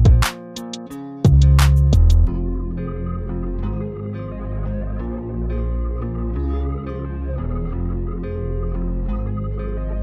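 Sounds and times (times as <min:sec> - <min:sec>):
soft ambient instrumental music: 0:00.0 - 0:10.0.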